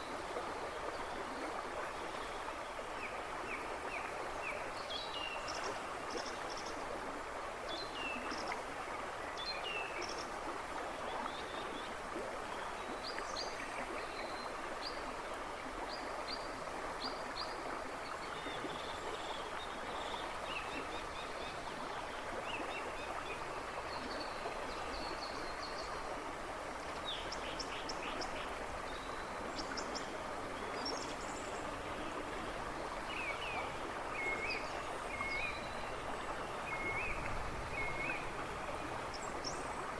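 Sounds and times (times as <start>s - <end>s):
river babbling and rushing: 0.0s - 39.9s.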